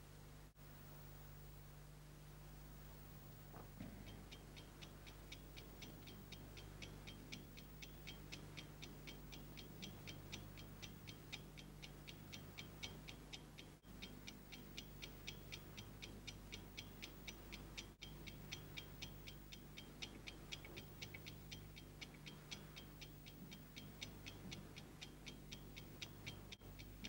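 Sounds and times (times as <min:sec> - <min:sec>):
steady low hum: 0:00.0 - 0:27.0
clock ticking fast: 0:03.9 - 0:27.0.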